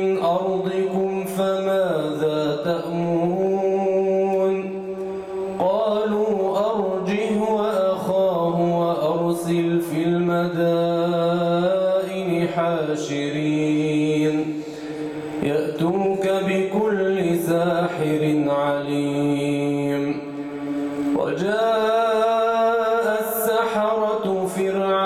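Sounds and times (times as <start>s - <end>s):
man chanting recitation: 0.0s - 20.4s, 21.1s - 25.0s.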